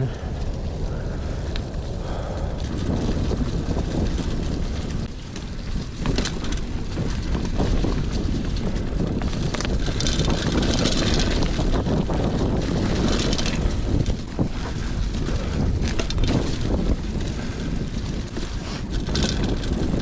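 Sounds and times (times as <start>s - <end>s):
bike rattling: 0.0s - 20.0s
bike tyres on dirt trail: 0.0s - 20.0s
wind rumbling on microphone: 0.0s - 20.0s.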